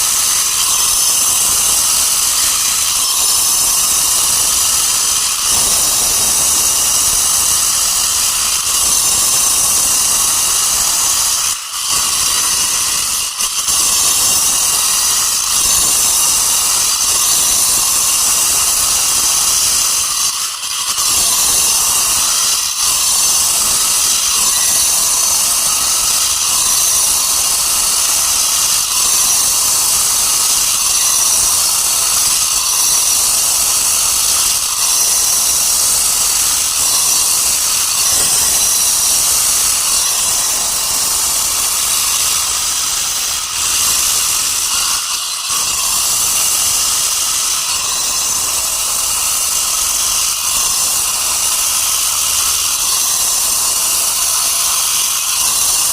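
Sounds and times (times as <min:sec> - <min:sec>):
power saw cutting stone: 0:00.0 - 0:55.9.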